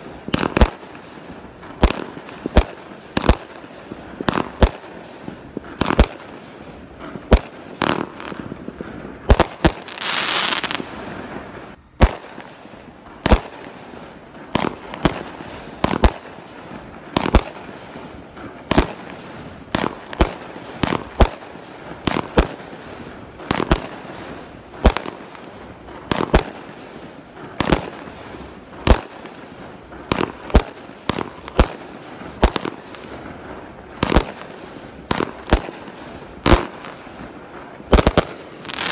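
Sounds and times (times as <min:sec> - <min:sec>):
fireworks launching and bursting: 0:00.0 - 0:38.9.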